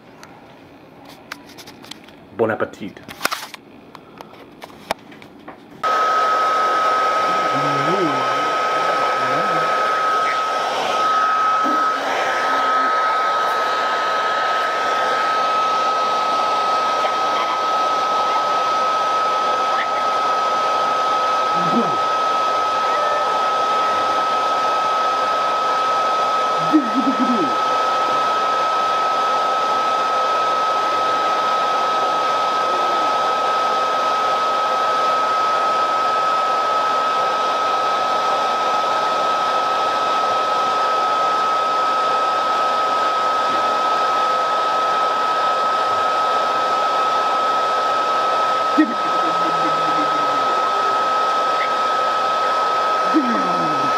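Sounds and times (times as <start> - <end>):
hair dryer running: 5.8 - 53.9.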